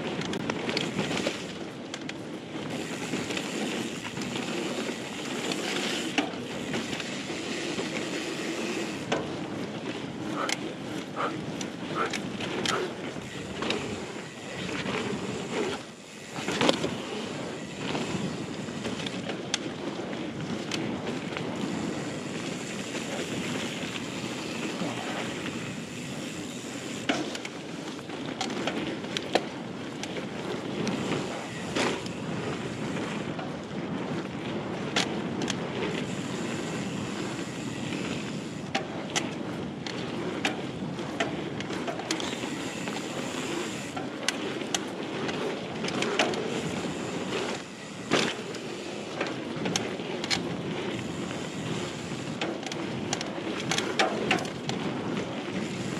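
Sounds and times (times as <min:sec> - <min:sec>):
bike clicks and knocks: 0:00.0 - 0:55.9
bike tyre rumble on dirt: 0:00.0 - 0:55.9
wind buffeting microphone: 0:00.0 - 0:55.9.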